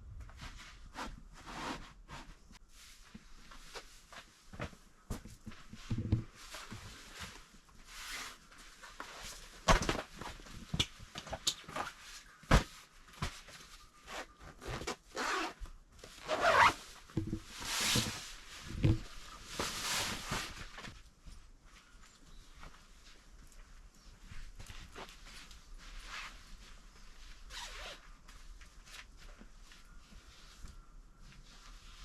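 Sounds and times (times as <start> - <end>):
camping gear rustling: 0.0 - 32.0.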